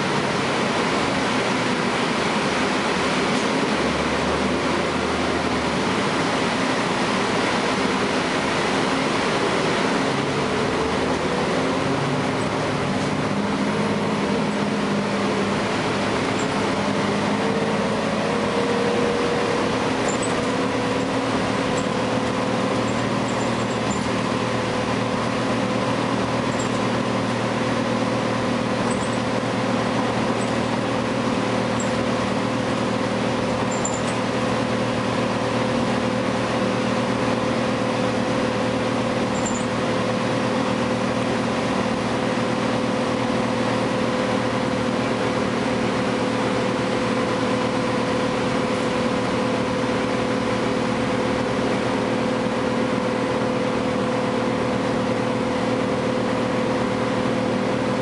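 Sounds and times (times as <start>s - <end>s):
bus diesel engine: 0.0s - 58.0s
road and tyre noise: 0.0s - 58.0s.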